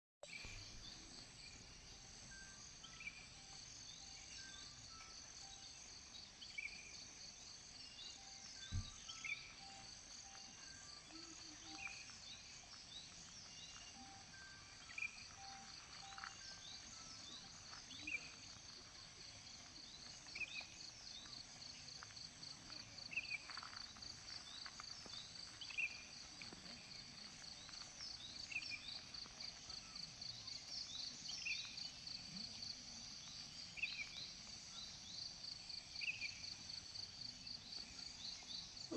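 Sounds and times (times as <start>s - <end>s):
insects trilling: 0.3s - 38.9s.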